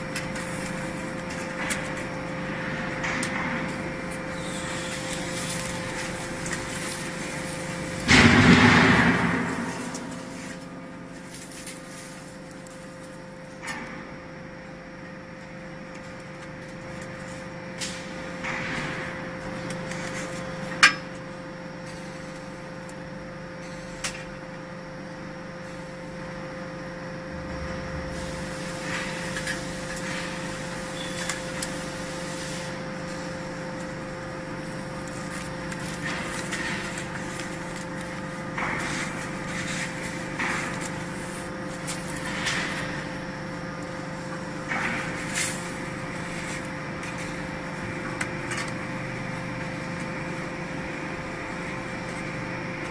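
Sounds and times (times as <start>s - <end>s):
hydraulic power unit humming: 0.0s - 52.9s.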